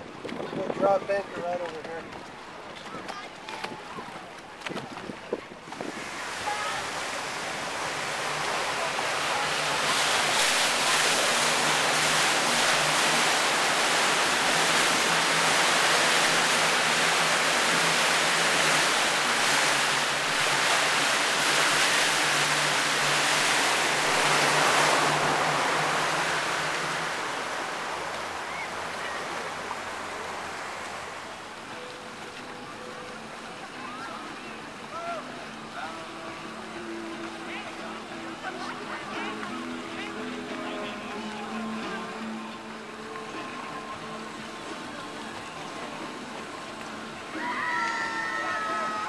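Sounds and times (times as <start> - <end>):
rushing water from motorboat: 0.0 - 49.0.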